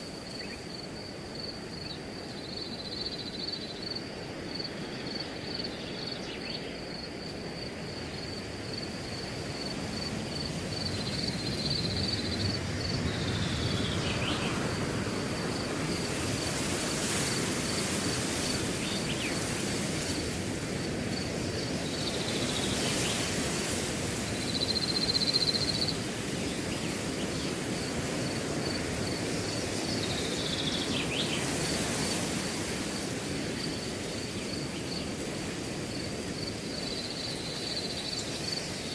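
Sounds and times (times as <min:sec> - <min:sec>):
cricket chirping: 0:00.0 - 0:38.9
wind rustling through grass: 0:00.0 - 0:38.9.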